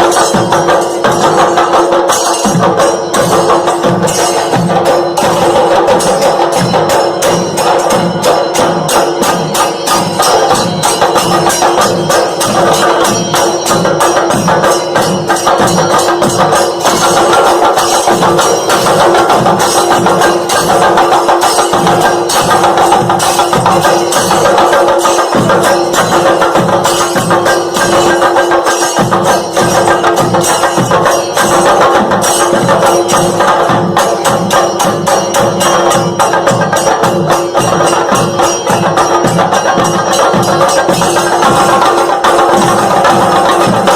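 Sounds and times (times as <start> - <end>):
tapping and jingling percussion beat: 0.0 - 43.9.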